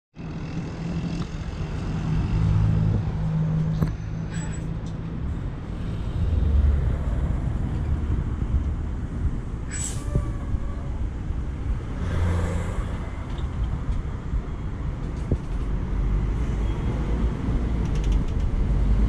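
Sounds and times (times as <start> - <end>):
bus engine hum: 0.2 - 19.0.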